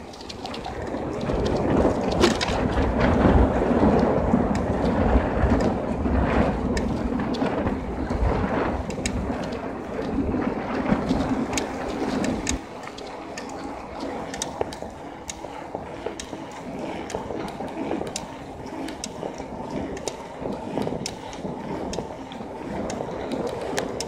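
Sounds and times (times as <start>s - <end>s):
bike rattling clicks: 0.0s - 5.8s, 6.6s - 24.0s
tyre noise on asphalt: 0.0s - 24.0s
wind rumbling on microphone: 0.0s - 24.0s.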